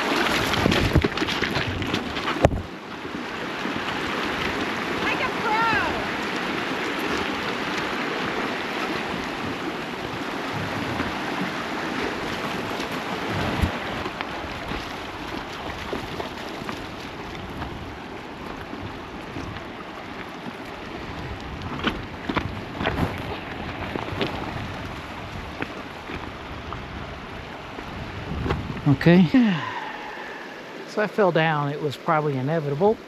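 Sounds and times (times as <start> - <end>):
rushing stream water: 0.0 - 33.0.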